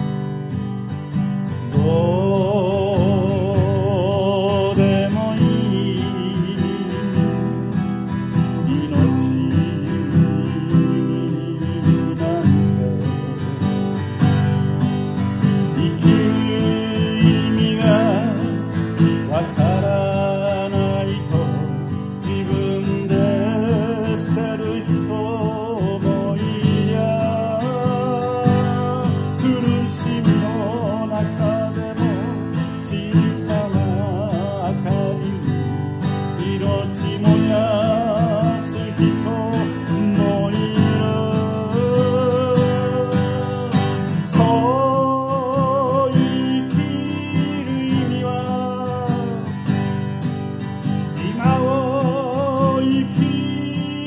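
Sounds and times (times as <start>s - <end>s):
man singing with vibrato: 0.0s - 54.0s
strummed acoustic guitar: 0.0s - 54.0s.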